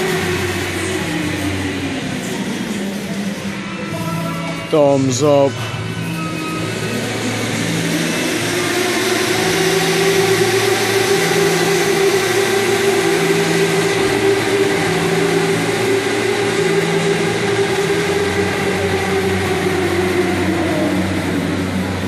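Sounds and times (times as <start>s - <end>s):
electric go-kart motors whining: 0.0s - 22.0s.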